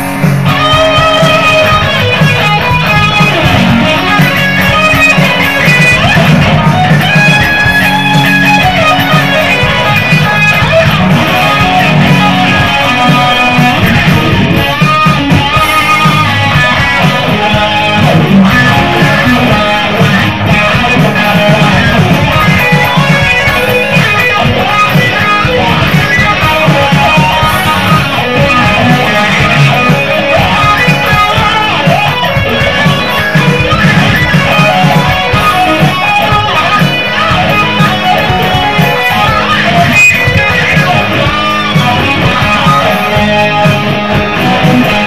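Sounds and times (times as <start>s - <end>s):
electric guitar shredding: 0.0s - 45.0s.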